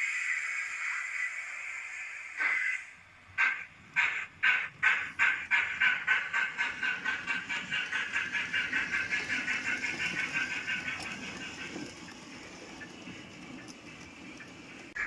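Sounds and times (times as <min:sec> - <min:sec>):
model steam locomotive chuffing: 0:00.0 - 0:15.0.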